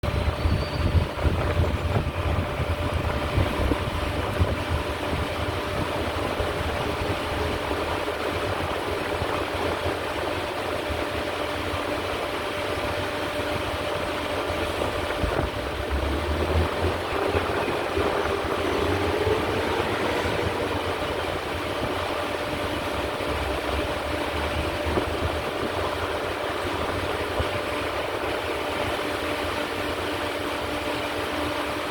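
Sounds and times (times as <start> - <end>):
low mechanical rumble: 0.0 - 31.9.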